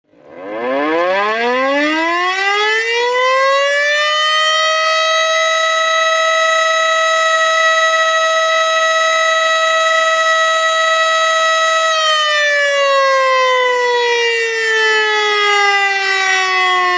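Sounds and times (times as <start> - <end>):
warning siren winding up: 0.1 - 16.9.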